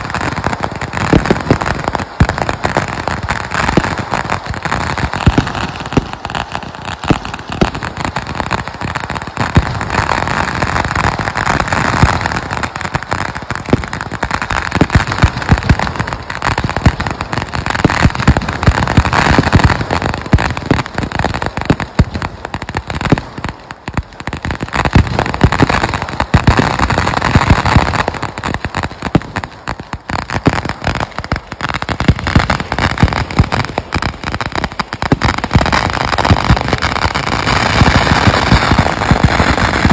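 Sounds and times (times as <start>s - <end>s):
fireworks crackling and popping: 0.0s - 39.9s
fireworks sharp bangs: 0.0s - 39.9s.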